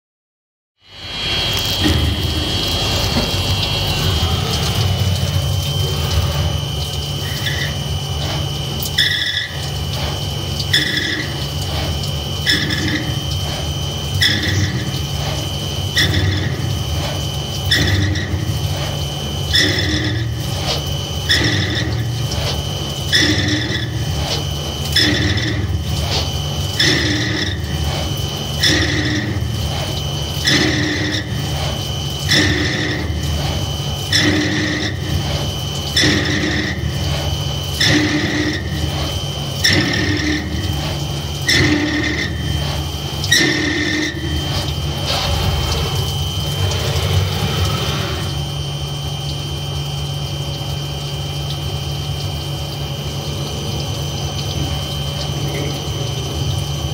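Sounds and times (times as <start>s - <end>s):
lathe humming and whining: 0.8s - 56.9s.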